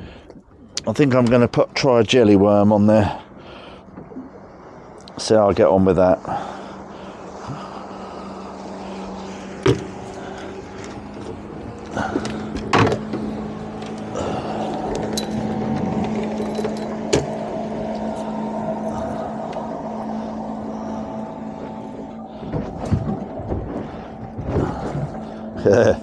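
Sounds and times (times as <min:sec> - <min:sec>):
boat engine hum: 0:00.0 - 0:26.0
passing motor vessel drone: 0:00.0 - 0:26.0.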